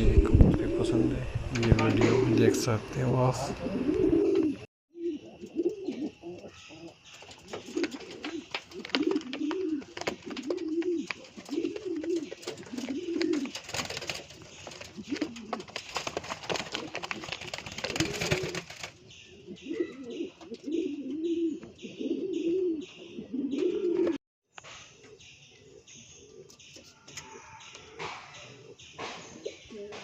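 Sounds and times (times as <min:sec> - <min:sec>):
pigeons cooing: 0:00.0 - 0:24.2, 0:24.9 - 0:30.0.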